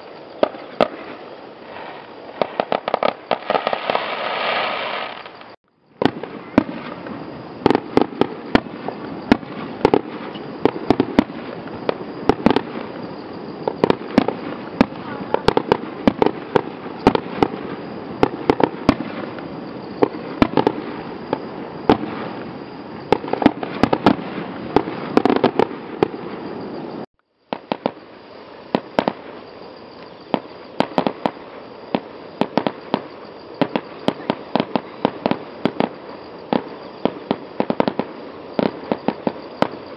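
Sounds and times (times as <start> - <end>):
fireworks bangs and pops: 0.0 - 28.0, 28.7 - 39.9
steady background noise: 0.0 - 39.9.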